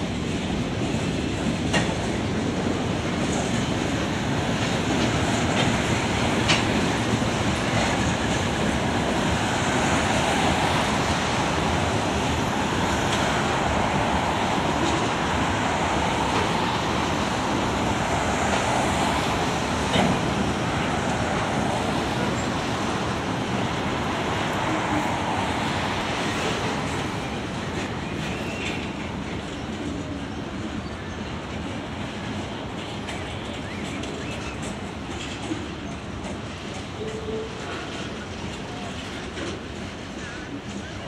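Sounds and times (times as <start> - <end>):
freight train cars rolling: 0.0 - 41.0
train car clank: 0.3 - 41.0.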